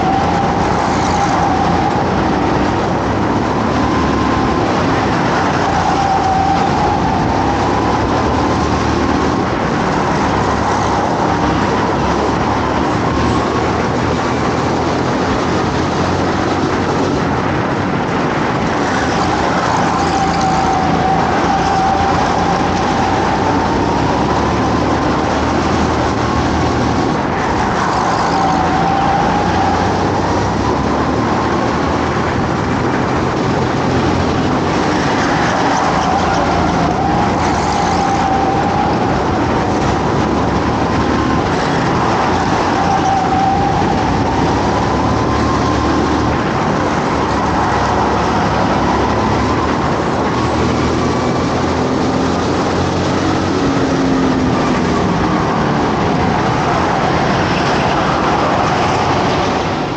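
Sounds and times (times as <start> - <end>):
go-kart engine racing: 0.0 - 59.9
track noise rush: 0.0 - 59.9.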